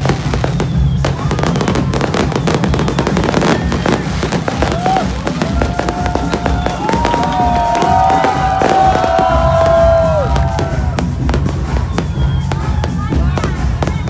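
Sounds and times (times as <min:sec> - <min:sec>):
fireworks crackling and banging: 0:00.0 - 0:14.0
whistling fireworks: 0:00.0 - 0:14.0.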